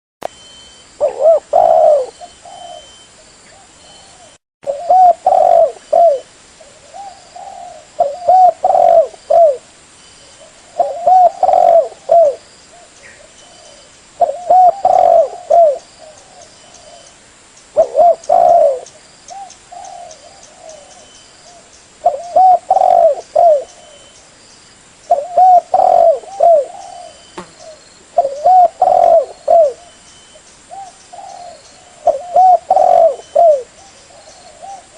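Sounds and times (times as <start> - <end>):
dove cooing: 1.0 - 9.7, 10.4 - 17.1, 17.8 - 24.1, 25.1 - 30.0, 30.7 - 34.9.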